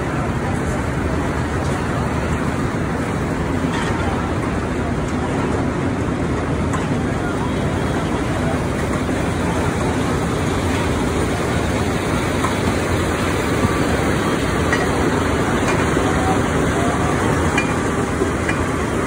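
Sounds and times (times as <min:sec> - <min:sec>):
machinery running loudly: 0:00.0 - 0:19.0.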